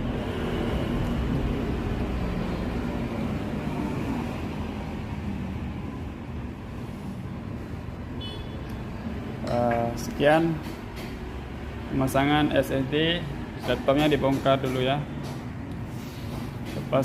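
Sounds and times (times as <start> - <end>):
low rumble of machinery or traffic: 0.0 - 17.0.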